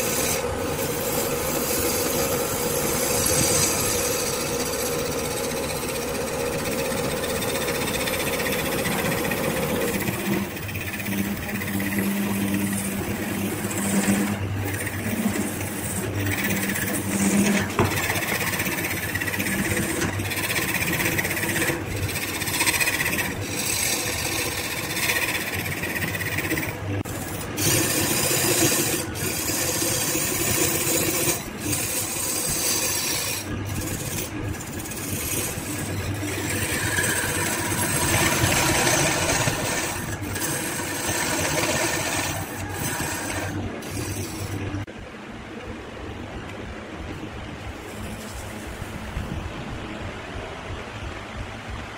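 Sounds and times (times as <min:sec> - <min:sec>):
lathe motor running: 0:00.0 - 0:44.9
wood lathe cutting noise: 0:00.0 - 0:44.9, 0:47.8 - 0:48.8.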